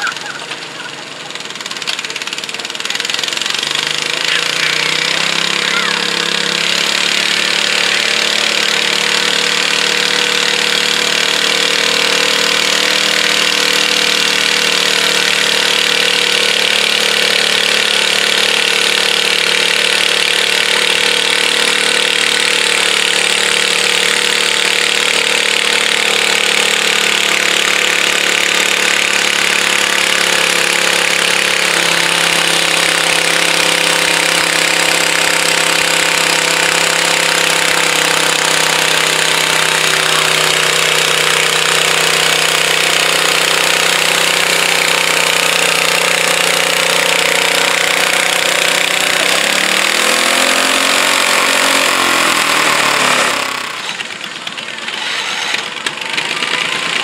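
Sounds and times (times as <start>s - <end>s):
garden tractor engine running hard: 0.0s - 57.0s.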